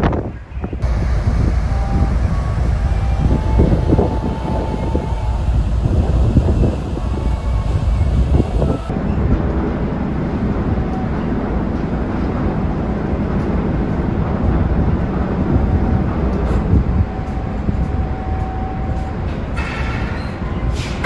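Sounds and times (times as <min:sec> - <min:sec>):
ferry engines rumbling: 0:00.0 - 0:21.0.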